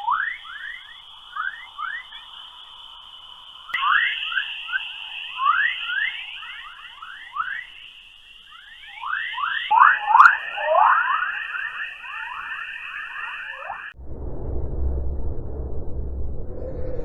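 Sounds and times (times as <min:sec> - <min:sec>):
high-pitched radio emission band: 0:00.0 - 0:14.0.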